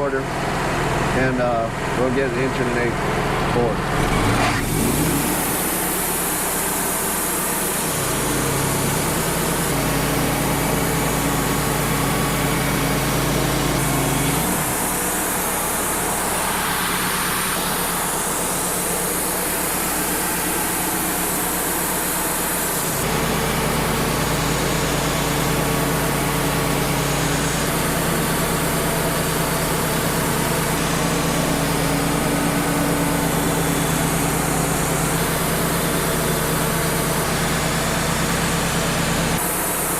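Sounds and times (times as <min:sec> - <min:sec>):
portable sawmill sawing boards: 0:03.5 - 0:39.9.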